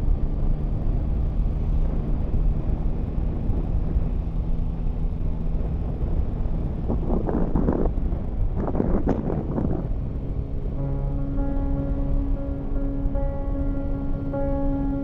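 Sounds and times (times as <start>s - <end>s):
low rumble of riding noise: 0.0s - 15.0s.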